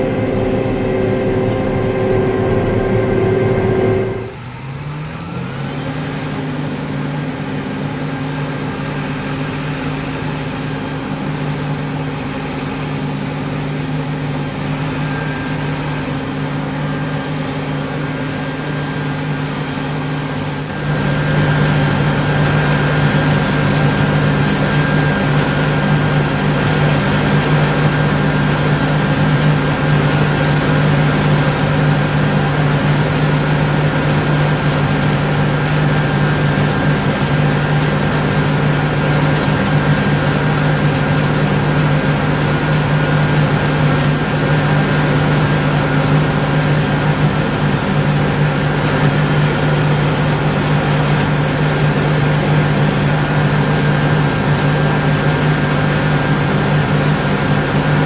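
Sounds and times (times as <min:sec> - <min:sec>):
constant high whine: 0:00.0 - 0:58.0
diesel and fan drone: 0:00.0 - 0:58.0.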